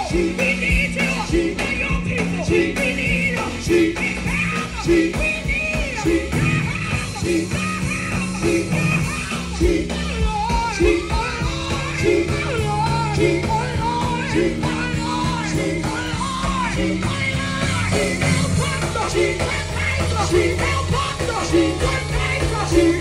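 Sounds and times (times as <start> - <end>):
band with steady bass: 0.0 - 23.0
singers on microphones: 0.0 - 23.0.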